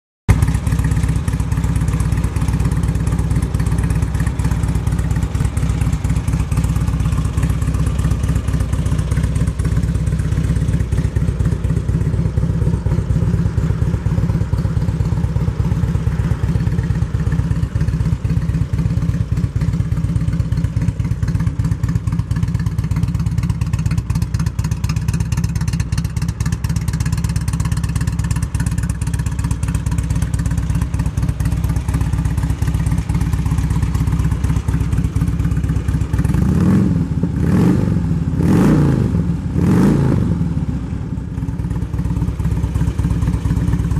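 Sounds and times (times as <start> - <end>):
motorcycle engine idling: 0.3 - 43.9.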